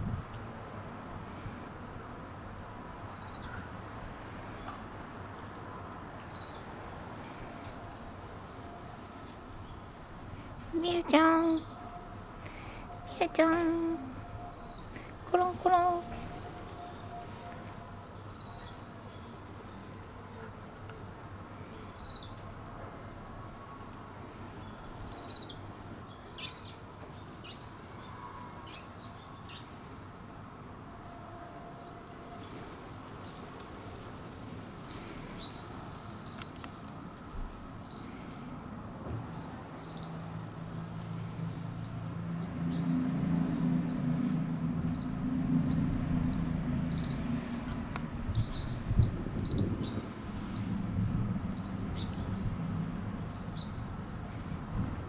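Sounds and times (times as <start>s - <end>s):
distant traffic hum: 0.0s - 55.0s.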